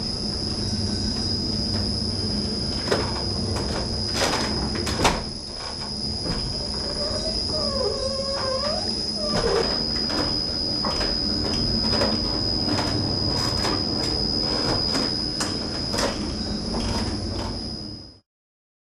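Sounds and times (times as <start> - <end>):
machinery rumble: 0.0 - 18.2.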